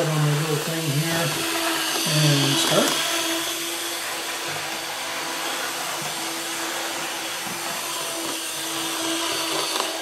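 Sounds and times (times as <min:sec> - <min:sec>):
model locomotive whirring: 0:00.0 - 0:10.0.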